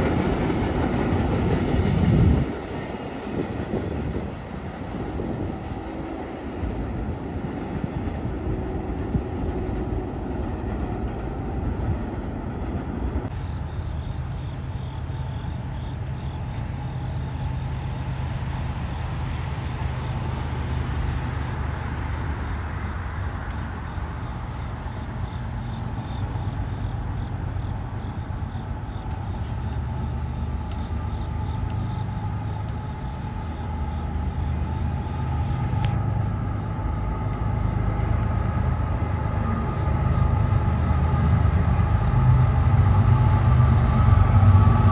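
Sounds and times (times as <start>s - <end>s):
train engine drone: 0.0s - 44.9s
train rolling noise: 0.0s - 44.9s.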